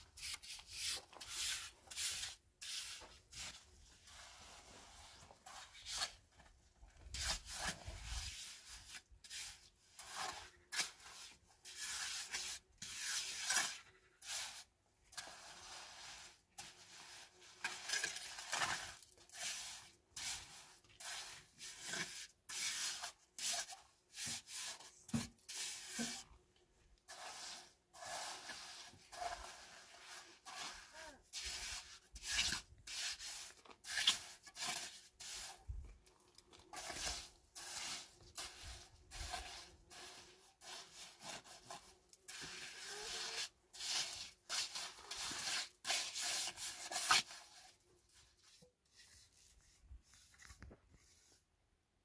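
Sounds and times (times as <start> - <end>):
rough scraping strokes: 0.0 - 26.4, 27.0 - 51.4.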